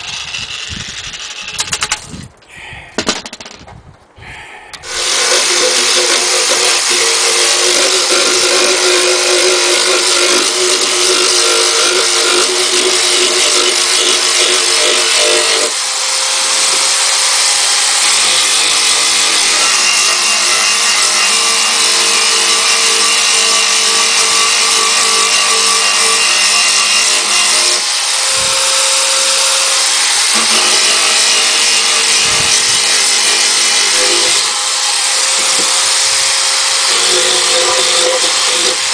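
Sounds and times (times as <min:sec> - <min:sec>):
electric drill sanding wood: 0:00.0 - 0:01.9, 0:04.8 - 0:38.9.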